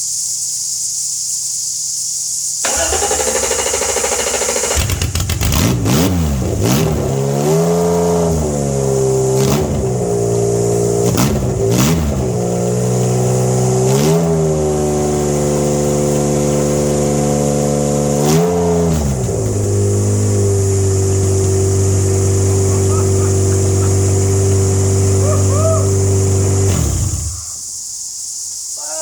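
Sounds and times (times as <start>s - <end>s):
motorcycle engine revving and idling: 2.6s - 27.7s.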